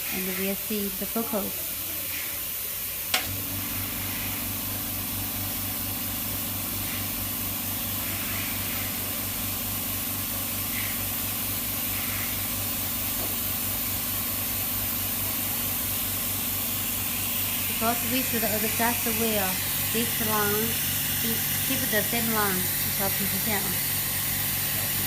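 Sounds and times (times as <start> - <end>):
electrical machine humming: 0.0 - 25.0.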